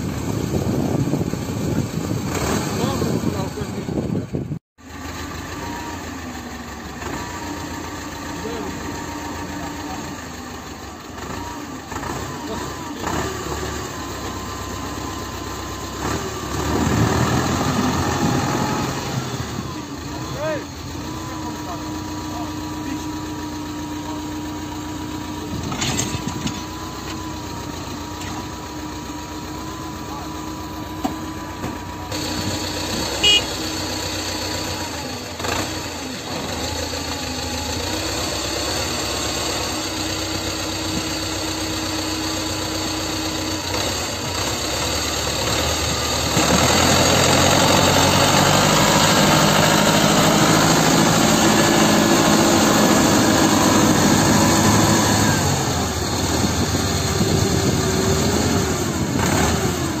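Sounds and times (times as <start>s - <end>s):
tractor diesel engine revving: 0.0s - 60.0s.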